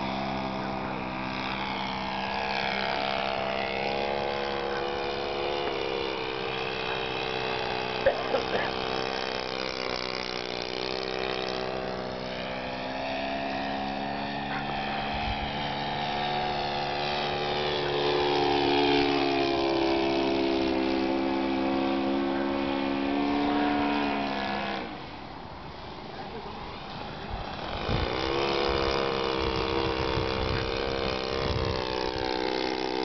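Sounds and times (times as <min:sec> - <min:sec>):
model airplane engine: 0:00.0 - 0:33.0.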